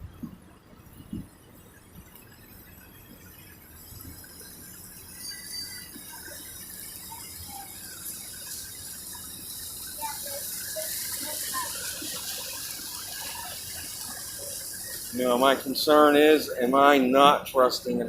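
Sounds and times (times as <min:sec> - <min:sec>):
running water rushing: 0:01.8 - 0:18.0.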